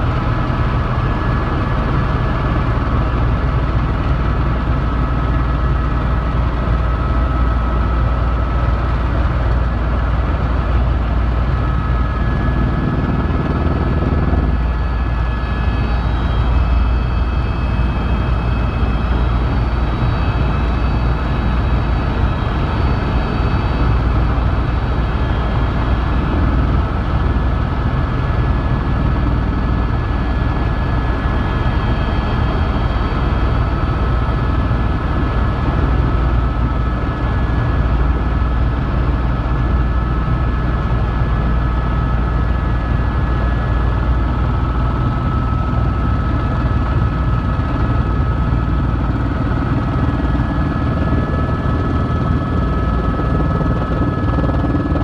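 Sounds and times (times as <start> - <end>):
helicopter engine and rotors: 0.0 - 55.0
thin steady whine: 0.0 - 55.0.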